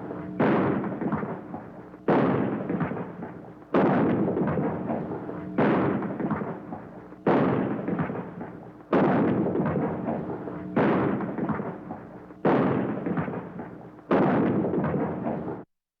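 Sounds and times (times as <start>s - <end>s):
shotgun shots with echo: 0.2s - 15.6s.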